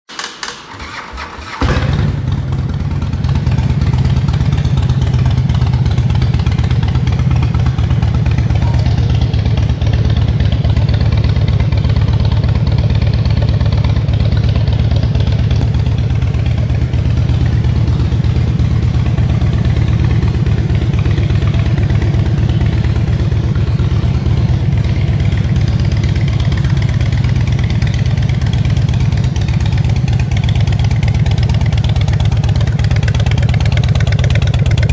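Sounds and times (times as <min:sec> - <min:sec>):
motorcycle engine starting and idling: 0:00.1 - 0:34.9.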